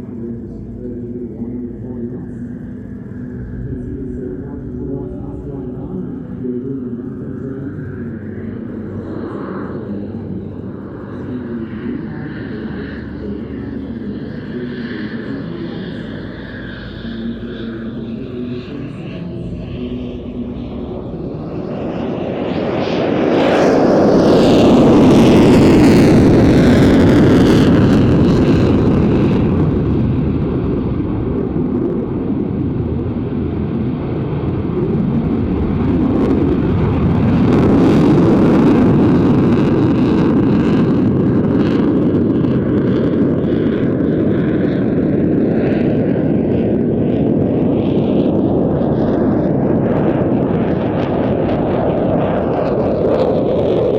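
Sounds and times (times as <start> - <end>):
fighter jet flying past: 0.0 - 53.9.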